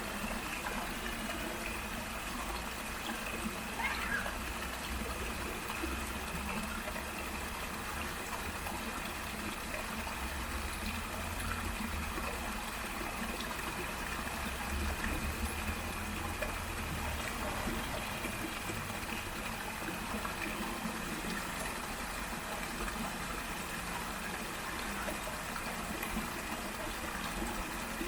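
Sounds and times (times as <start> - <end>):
water babbling over rocks: 0.0 - 28.0.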